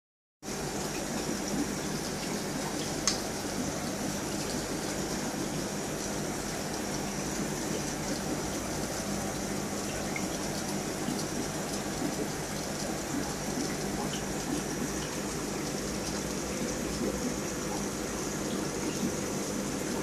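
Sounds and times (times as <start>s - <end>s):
aquarium filter bubbling: 0.4s - 20.0s.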